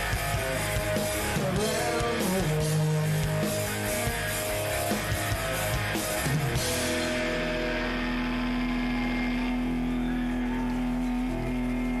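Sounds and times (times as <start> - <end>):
distorted guitar and bass drone: 0.0 - 12.0.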